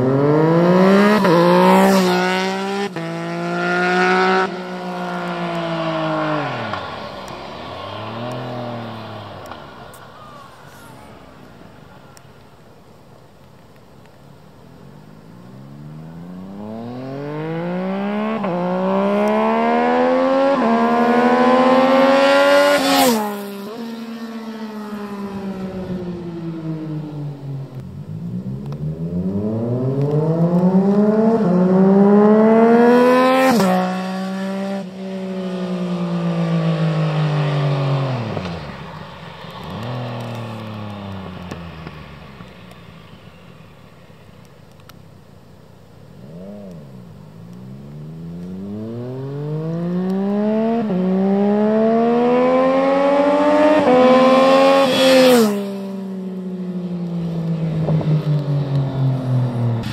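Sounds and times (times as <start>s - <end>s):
motorcycle passing by: 0.0s - 11.6s, 15.4s - 43.8s, 46.2s - 59.9s.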